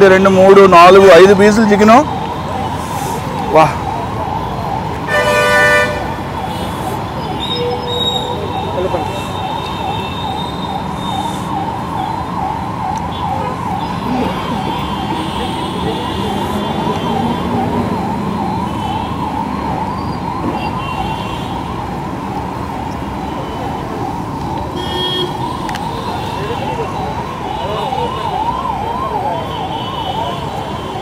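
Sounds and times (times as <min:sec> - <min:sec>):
crowd noise: 0:00.0 - 0:31.0
traffic noise: 0:00.0 - 0:31.0
warbling siren: 0:00.9 - 0:31.0.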